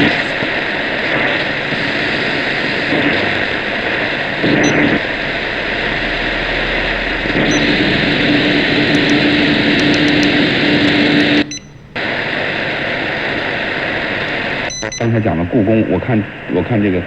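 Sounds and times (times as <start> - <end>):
low steady hum: 0.0 - 17.0
radio static hiss: 0.0 - 17.0.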